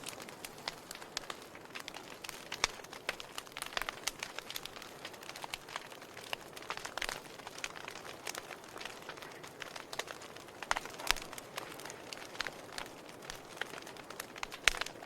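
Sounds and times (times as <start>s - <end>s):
logs burning with crackles: 0.0s - 15.0s.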